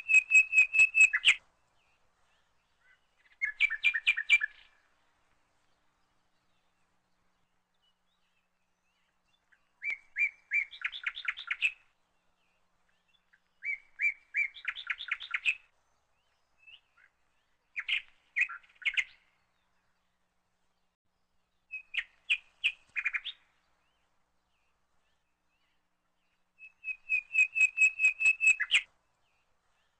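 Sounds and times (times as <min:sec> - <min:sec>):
songbird singing: 0:00.0 - 0:29.9.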